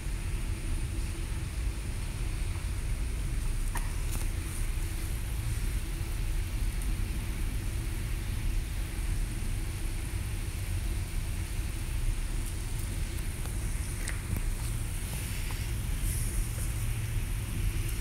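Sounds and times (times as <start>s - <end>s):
aquarium pumps humming: 0.0s - 18.0s.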